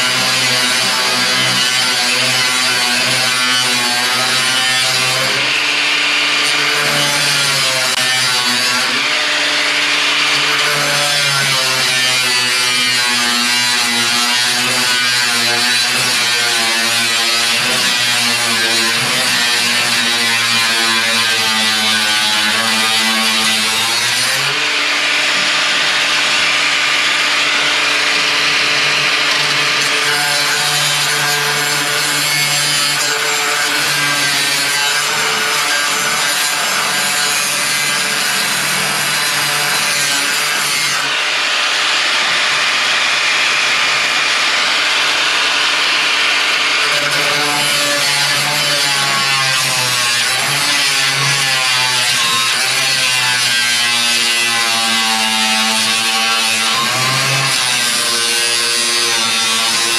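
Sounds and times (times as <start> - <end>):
power saw cutting steel: 0.0 - 59.9.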